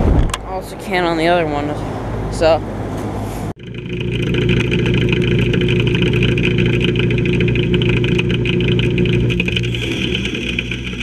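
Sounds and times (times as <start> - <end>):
air conditioner unit humming: 0.4 - 9.7.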